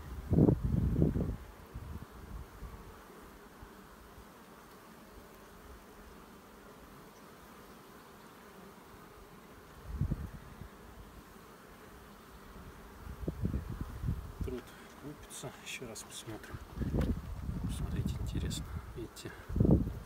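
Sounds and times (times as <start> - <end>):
honey bees humming: 0.0 - 20.0.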